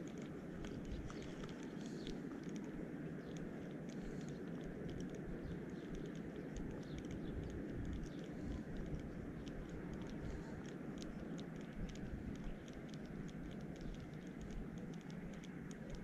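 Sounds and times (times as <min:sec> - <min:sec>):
faint light clicks: 0:00.0 - 0:16.0
wind rumble on microphone: 0:00.0 - 0:16.0.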